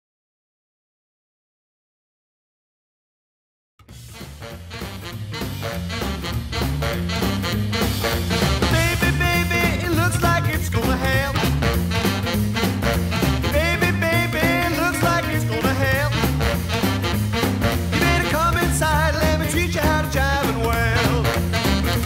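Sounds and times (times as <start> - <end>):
swing music: 3.8 - 22.0.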